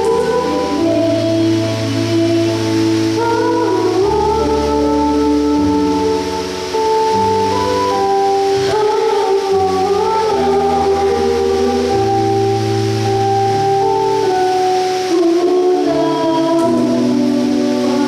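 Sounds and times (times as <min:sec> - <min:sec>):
girl singing into microphone: 0:00.0 - 0:18.0.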